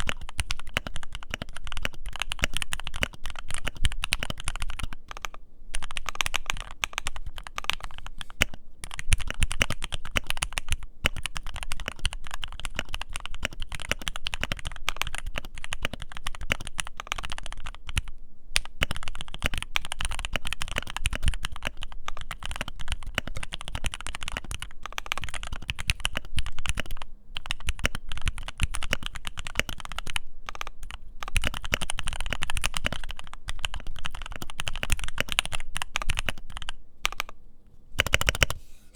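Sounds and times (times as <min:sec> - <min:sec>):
mechanical keyboard typing: 0:00.0 - 0:37.4, 0:38.0 - 0:38.6.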